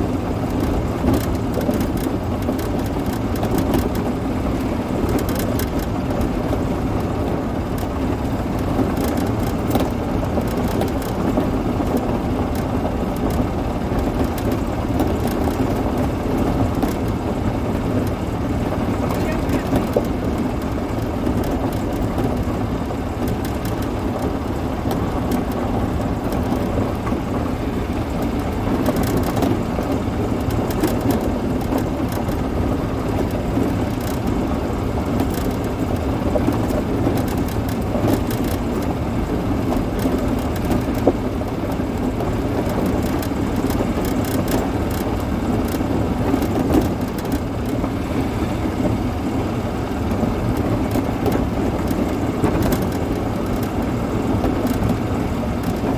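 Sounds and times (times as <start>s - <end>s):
golf cart driving on gravel: 0.0s - 55.9s
small rattles and clicks: 0.0s - 55.9s.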